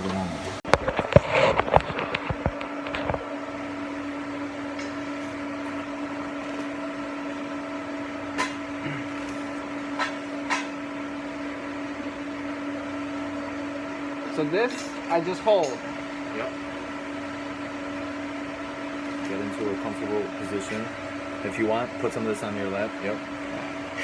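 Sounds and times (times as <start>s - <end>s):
welding arc buzzing and hissing: 0.0s - 24.0s.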